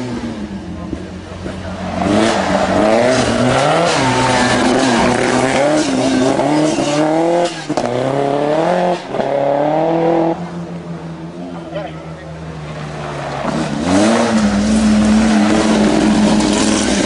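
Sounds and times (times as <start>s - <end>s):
rally car engine passing at full throttle: 0.0s - 17.0s.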